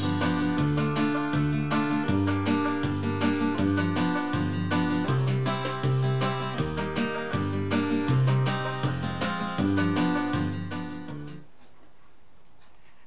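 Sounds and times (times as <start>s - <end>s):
bass line: 0.0s - 11.4s
plucked string music: 0.0s - 11.5s
faint steady hiss: 0.0s - 13.0s.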